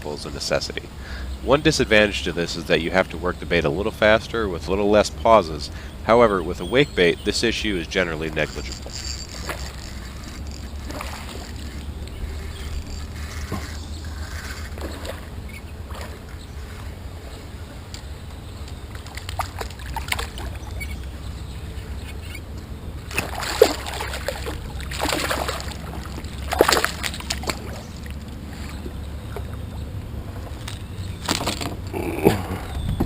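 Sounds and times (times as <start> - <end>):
water sloshing around kayak: 0.0 - 31.9
low rumble: 5.2 - 33.0.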